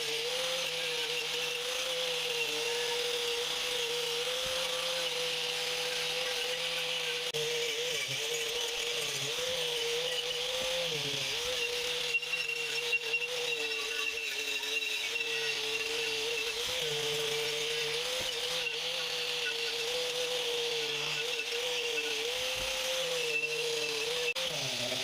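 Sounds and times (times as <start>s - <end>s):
power tool motor whining: 0.0s - 25.0s.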